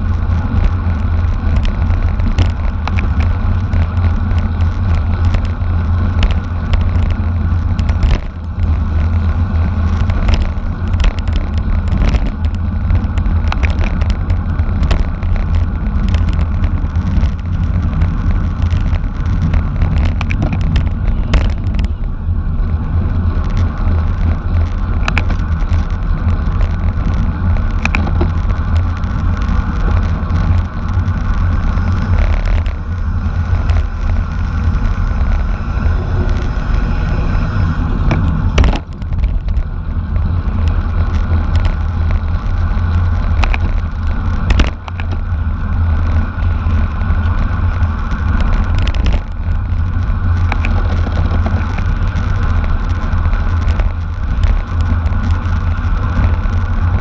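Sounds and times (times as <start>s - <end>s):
bicycle clicks and rattles: 0.0s - 57.0s
wind and road noise: 0.0s - 57.0s.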